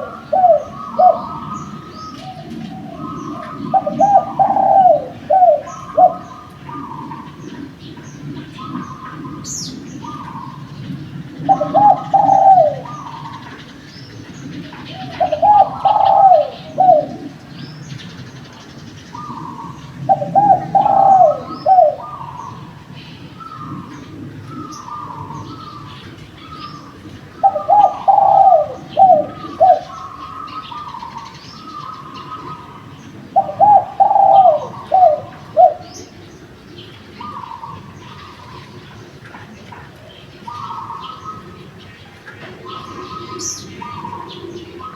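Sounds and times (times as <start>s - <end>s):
dove cooing: 0.0s - 44.9s
small birds chirping: 0.0s - 44.9s.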